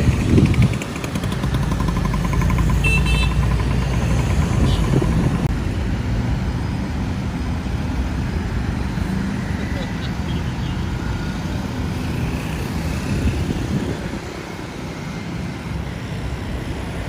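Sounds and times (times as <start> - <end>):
cars and motorcycles passing: 0.0 - 17.0.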